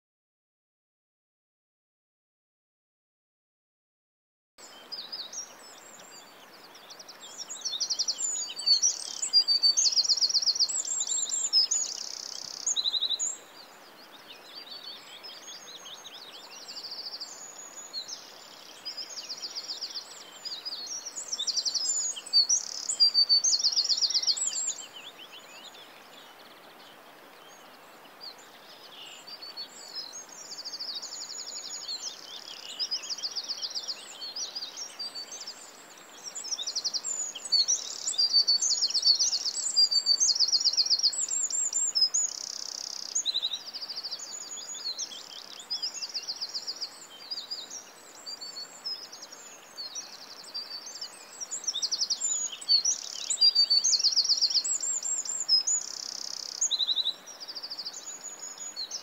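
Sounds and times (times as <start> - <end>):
faint steady hiss: 4.6 - 59.0
small birds chirping and trilling: 4.6 - 59.0.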